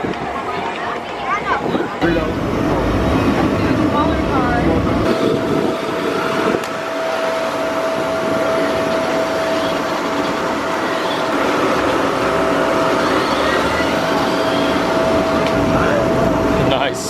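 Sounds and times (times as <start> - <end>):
blower fan running: 0.0 - 17.0.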